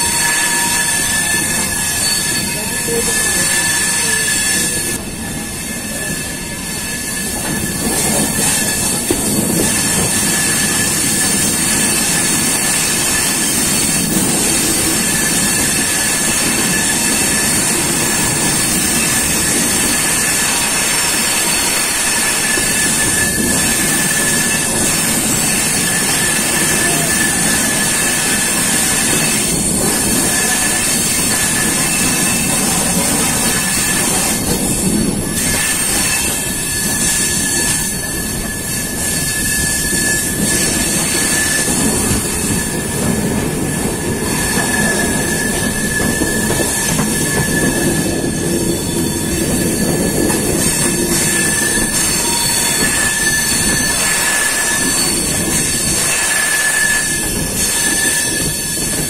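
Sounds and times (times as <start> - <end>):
train wheels rumbling on rails: 0.0 - 59.0
wheel squeal: 0.0 - 59.0.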